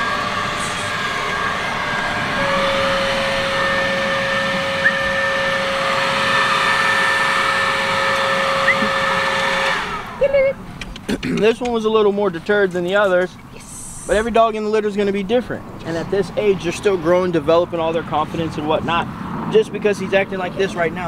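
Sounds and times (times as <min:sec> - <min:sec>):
leaf blower fan whine: 0:00.0 - 0:21.0.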